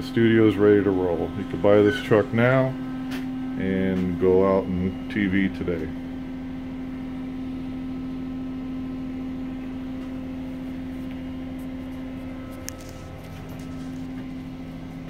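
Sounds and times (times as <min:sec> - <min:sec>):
diesel generator humming: 0:00.0 - 0:15.0.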